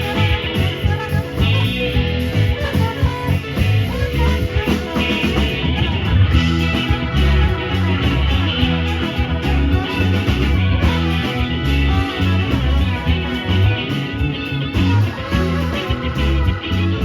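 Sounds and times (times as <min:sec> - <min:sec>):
bass notes: 0:00.0 - 0:17.0
guitar: 0:00.0 - 0:17.0.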